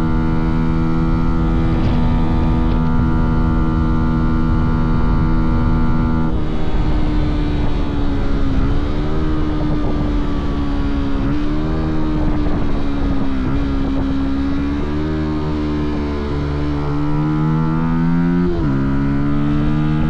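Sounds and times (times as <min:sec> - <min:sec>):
motorcycle engine and exhaust: 0:00.0 - 0:20.0.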